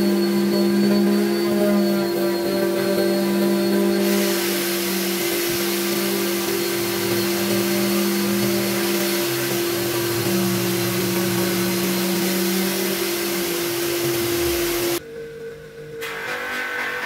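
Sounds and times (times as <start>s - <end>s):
orbital sander on wood: 0.0s - 15.0s.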